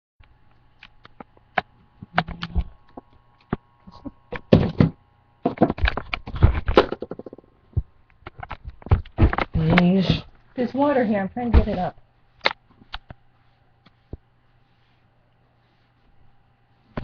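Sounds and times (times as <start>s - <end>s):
faint steady hum: 0.2s - 17.0s.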